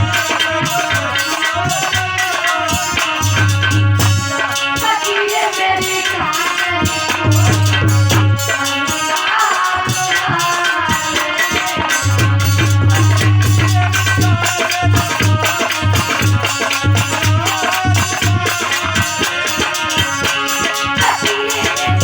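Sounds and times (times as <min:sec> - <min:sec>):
devotional song melody: 0:00.0 - 0:22.0
hand drum and shaker rhythm: 0:00.0 - 0:22.0.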